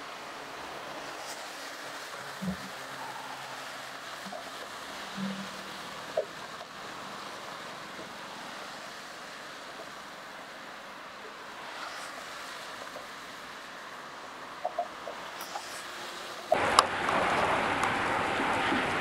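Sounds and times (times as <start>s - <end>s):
highway traffic rushing: 0.0s - 19.0s
wind: 0.0s - 19.0s.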